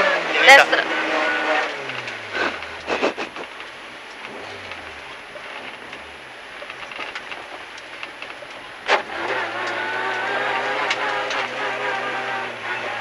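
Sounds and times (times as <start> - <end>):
car engine from inside cabin: 0.0 - 13.0
tyre and road noise: 0.0 - 13.0.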